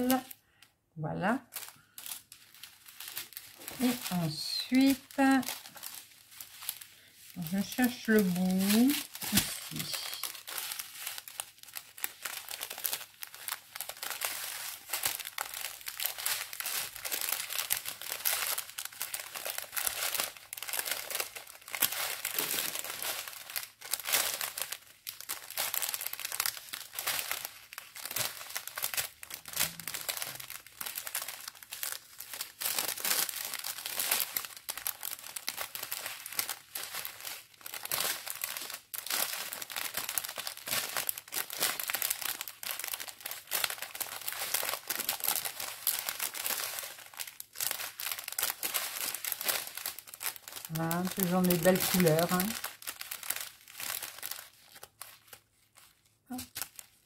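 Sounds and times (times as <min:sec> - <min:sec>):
plastic bags crinkling: 0:00.0 - 0:57.0.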